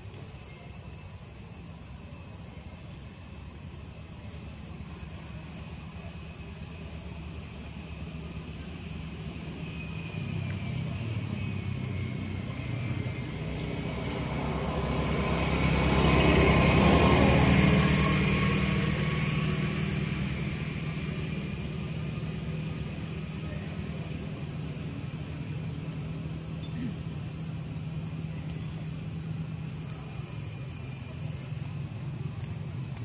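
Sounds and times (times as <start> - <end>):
vehicle passing by: 4.8 - 33.0.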